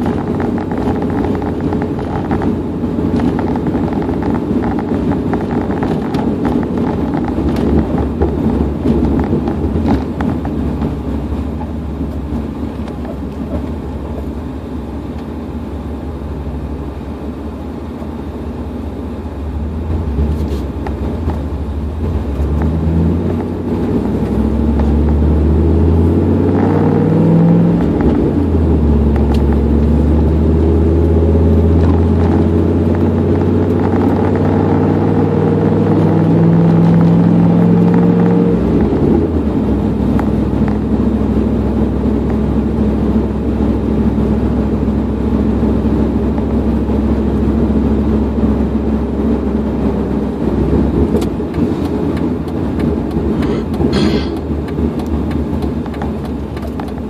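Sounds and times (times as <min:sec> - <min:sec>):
truck exhaust rumbling: 0:00.0 - 0:57.0.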